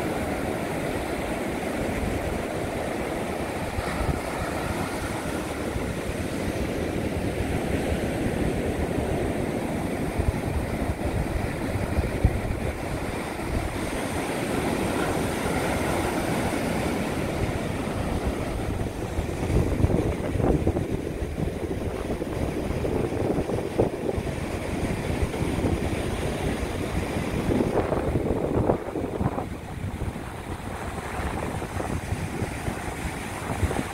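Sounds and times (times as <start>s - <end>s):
ocean surf washing on beach: 0.0s - 33.9s
wind rumbling on microphone: 0.0s - 33.9s.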